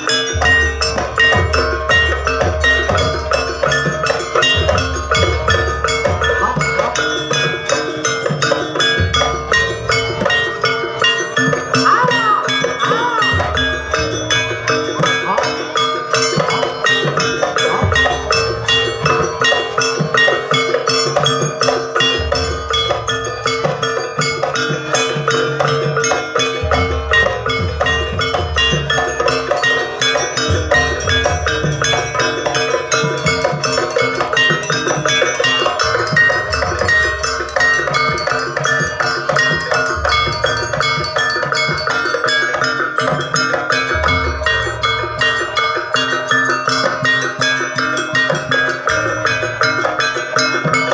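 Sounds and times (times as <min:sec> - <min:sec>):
drumming: 0:00.0 - 0:50.9.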